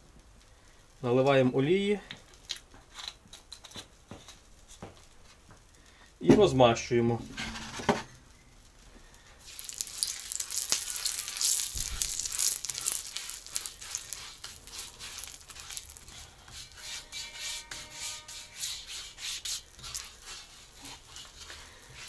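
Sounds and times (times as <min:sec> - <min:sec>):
oil sizzling and crackling: 0:00.0 - 0:07.0, 0:07.6 - 0:22.0.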